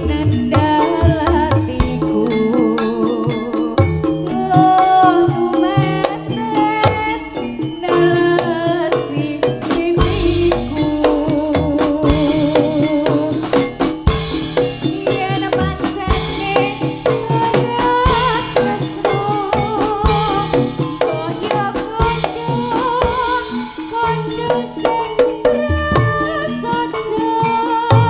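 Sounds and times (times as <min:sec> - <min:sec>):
amplified gamelan music: 0:00.0 - 0:28.0.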